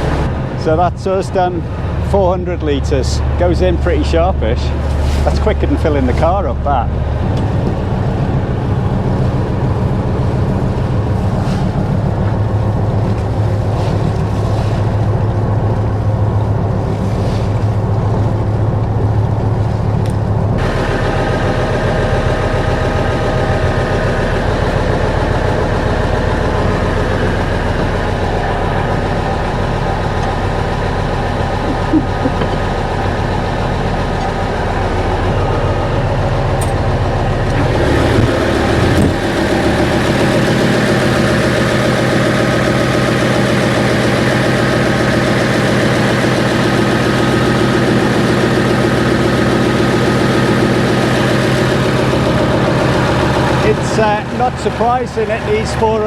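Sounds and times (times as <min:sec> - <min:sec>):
diesel engine running: 0:00.0 - 0:56.0
engine hum with higher tones: 0:00.0 - 0:56.0.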